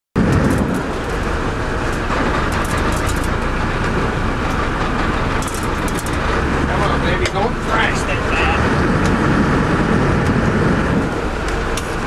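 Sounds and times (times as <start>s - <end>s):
boat engine rumble: 0.2s - 12.0s
rushing water: 0.2s - 12.0s.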